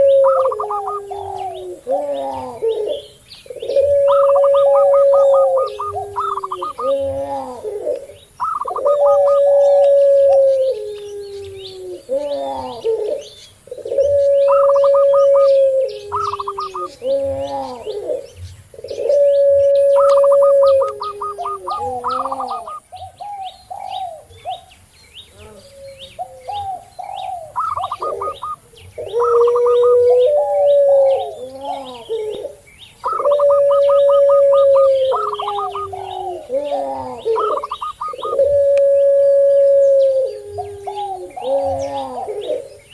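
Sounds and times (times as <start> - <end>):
small birds chirping fast: 0.0 - 38.5, 40.0 - 42.9
dove long steady coos: 0.0 - 42.9
doves warbling coos: 0.0 - 42.9.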